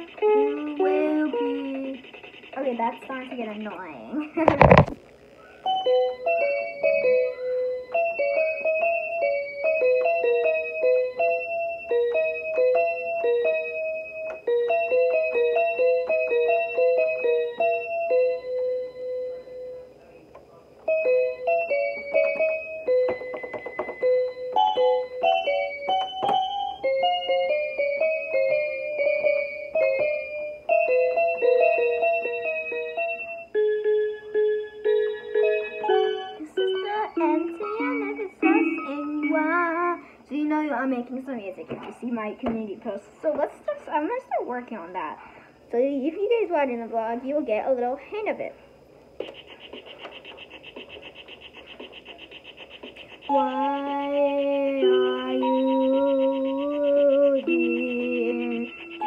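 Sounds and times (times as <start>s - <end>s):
electronic keyboard melody: 0.0s - 4.1s, 4.7s - 20.0s, 20.8s - 39.8s, 49.6s - 59.0s.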